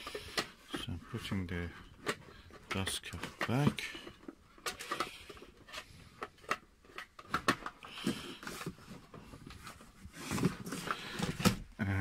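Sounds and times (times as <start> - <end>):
rustling and scraping cardboard: 0.0 - 11.7.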